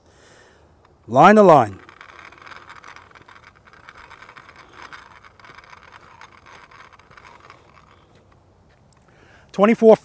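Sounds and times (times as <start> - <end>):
wheel rolling on asphalt: 0.7 - 9.2.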